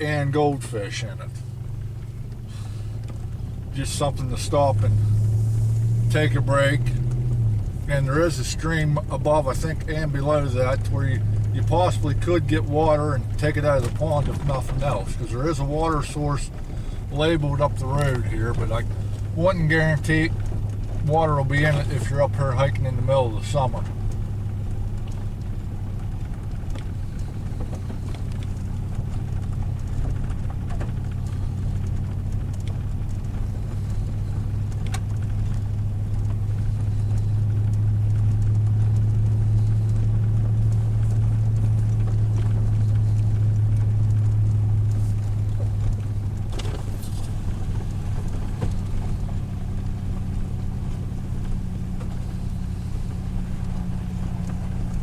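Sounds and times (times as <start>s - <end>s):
road noise inside car: 0.0s - 55.0s
vehicle engine drone: 0.0s - 55.0s.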